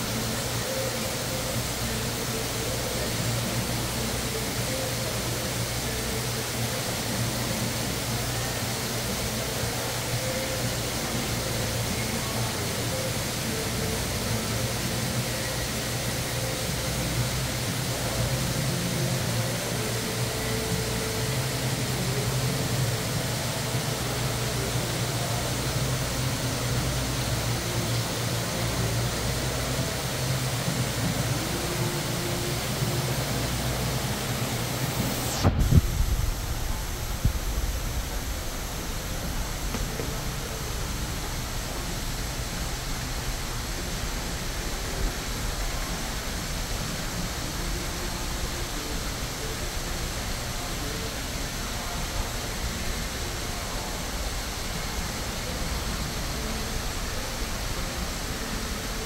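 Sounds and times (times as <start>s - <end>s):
steady low hum: 0.0s - 59.0s
waterfall rushing into pool: 0.0s - 59.0s.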